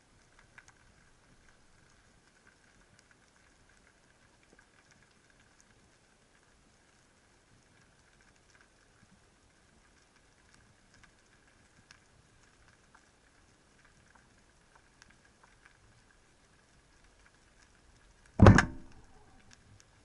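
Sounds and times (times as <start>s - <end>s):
low underwater hiss: 0.0s - 20.0s
sharp clicks and crackles: 0.0s - 20.0s.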